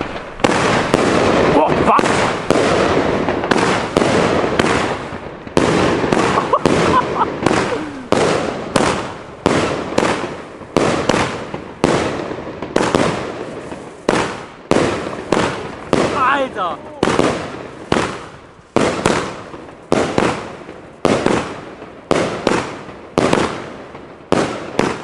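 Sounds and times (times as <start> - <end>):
firework hiss: 0.0 - 23.8
fireworks launching: 0.0 - 25.0.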